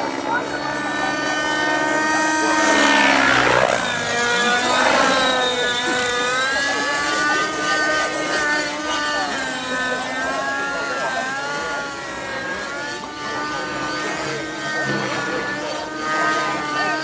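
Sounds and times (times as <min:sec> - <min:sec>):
model helicopter engine and rotor: 0:00.0 - 0:17.0.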